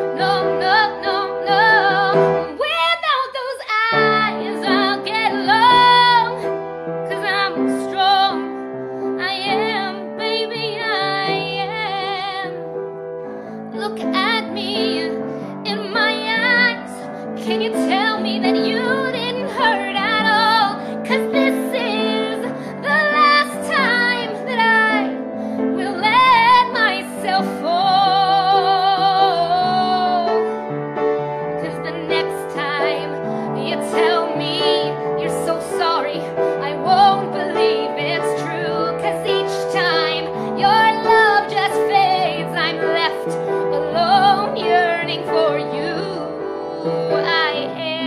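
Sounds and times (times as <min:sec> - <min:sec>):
piano accompaniment: 0:00.0 - 0:48.0
woman singing a ballad: 0:00.0 - 0:48.0.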